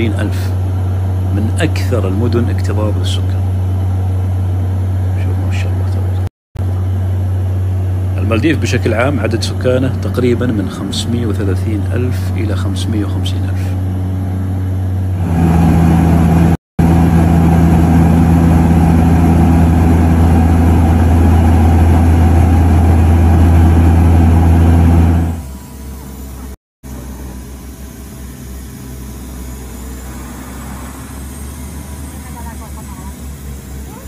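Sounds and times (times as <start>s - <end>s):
propeller engine droning: 0.0s - 34.0s.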